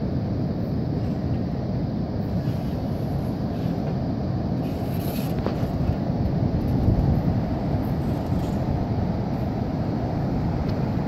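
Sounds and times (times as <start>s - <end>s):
wind buffeting microphone: 0.9s - 11.0s.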